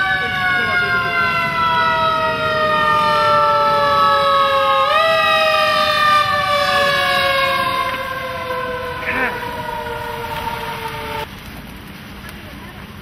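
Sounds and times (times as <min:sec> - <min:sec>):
fire truck siren wailing: 0:00.0 - 0:11.3.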